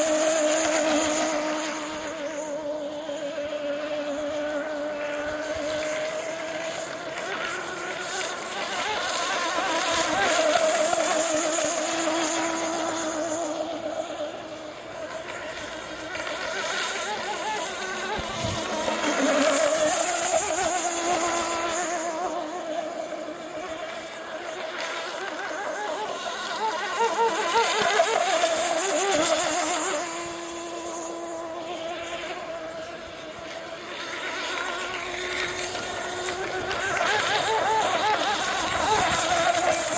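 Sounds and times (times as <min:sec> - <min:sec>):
model boat engine buzzing: 0:00.0 - 0:39.9.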